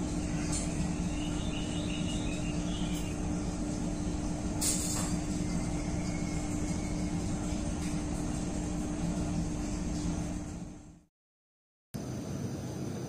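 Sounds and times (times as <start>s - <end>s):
constant hum: 0.0s - 11.1s.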